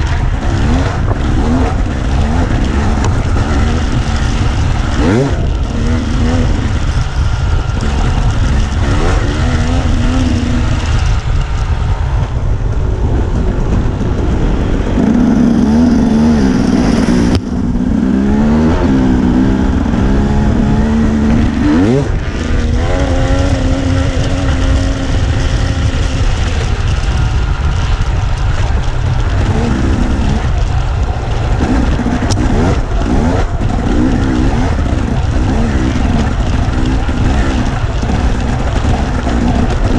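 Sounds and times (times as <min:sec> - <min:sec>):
dirt bike engine revving: 0:00.0 - 0:12.2, 0:14.1 - 0:39.9
wind on microphone: 0:00.0 - 0:39.9.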